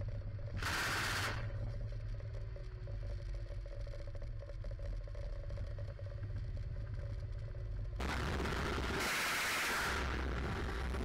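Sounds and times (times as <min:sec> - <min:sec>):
faint constant hum: 0:00.0 - 0:11.0.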